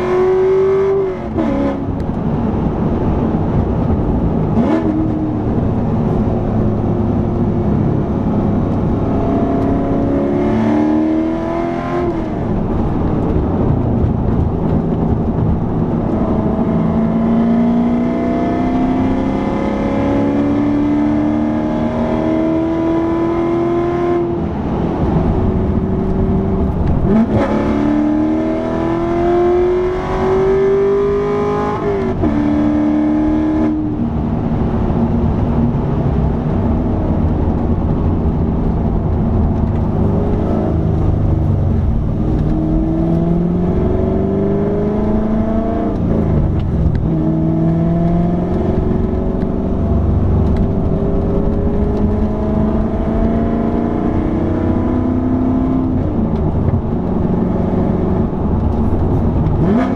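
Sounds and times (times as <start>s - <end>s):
car engine accelerating through gears: 0.0s - 59.9s.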